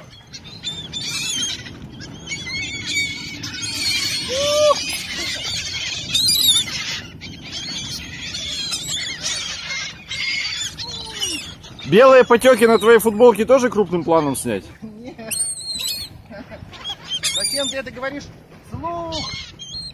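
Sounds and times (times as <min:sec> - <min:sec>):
low arching gull call: 0:00.0 - 0:17.9
flock of gulls squawking: 0:00.0 - 0:19.9.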